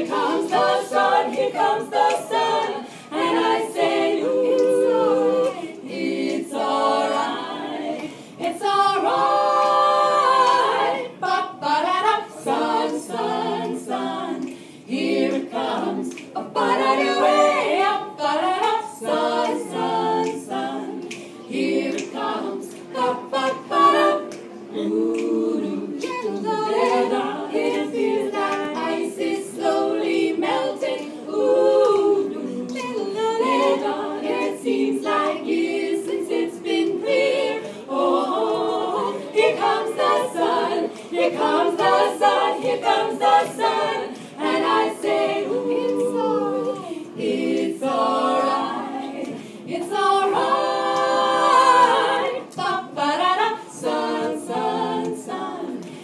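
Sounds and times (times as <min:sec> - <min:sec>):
women's choir singing: 0:00.0 - 0:56.0.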